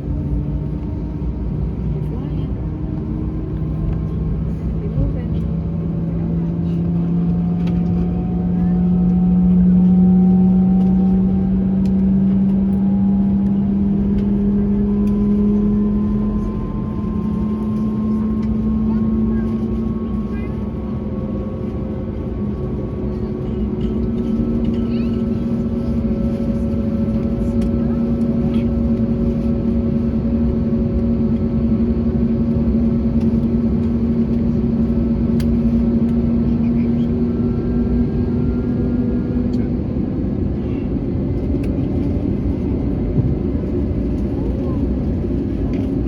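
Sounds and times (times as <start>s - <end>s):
jet engines running: 0.0s - 46.0s.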